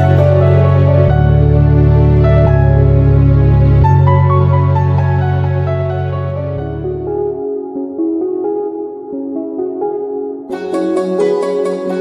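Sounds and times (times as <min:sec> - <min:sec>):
slow new-age music: 0:00.0 - 0:12.0.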